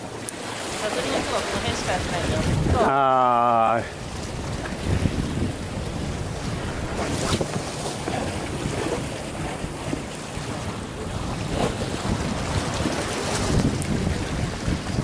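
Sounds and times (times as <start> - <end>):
waves washing against concrete: 0.0 - 15.0
wind buffeting microphone: 0.8 - 15.0.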